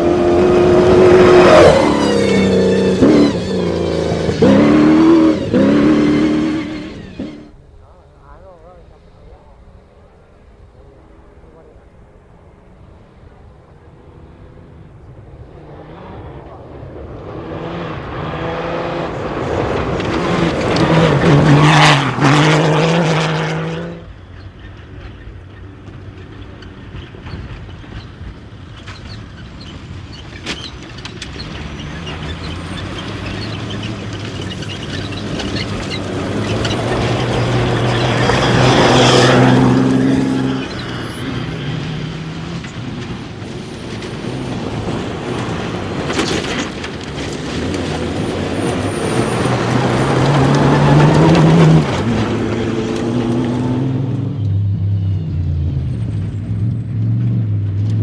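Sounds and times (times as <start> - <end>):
racing vehicles passing at speed: 0.0 - 58.0.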